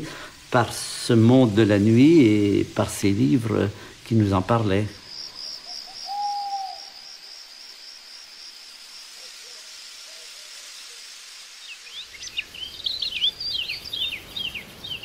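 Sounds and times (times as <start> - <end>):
crickets trilling: 0.0 - 15.0
birds chirping: 1.0 - 15.0.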